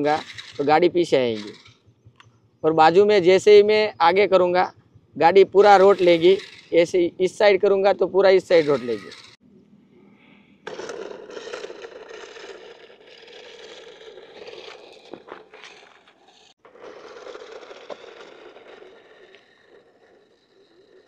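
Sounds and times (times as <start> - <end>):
toy truck rattling over asphalt: 0.0 - 4.5, 5.2 - 9.4, 10.6 - 21.0.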